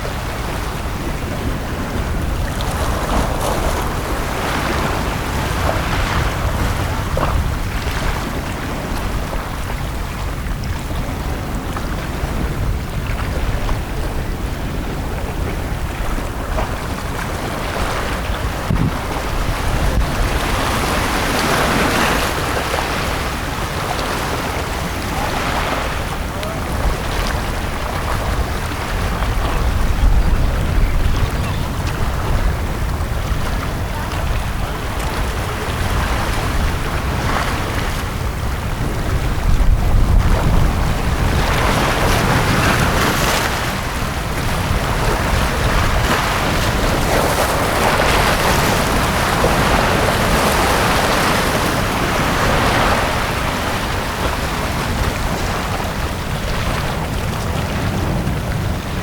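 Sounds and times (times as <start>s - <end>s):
sea waves washing onto beach: 0.0s - 59.0s.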